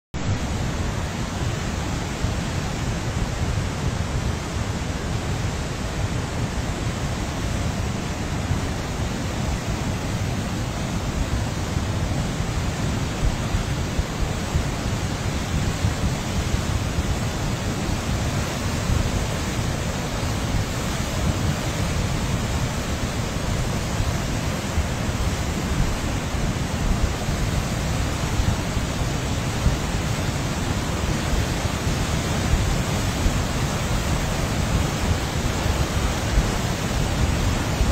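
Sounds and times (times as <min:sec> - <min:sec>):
rushing floodwater: 0:00.2 - 0:37.9.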